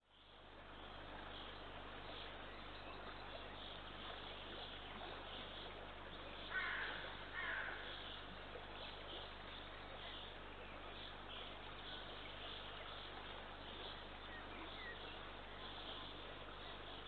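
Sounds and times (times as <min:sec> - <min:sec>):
faint distant birdsong: 0:00.0 - 0:17.0.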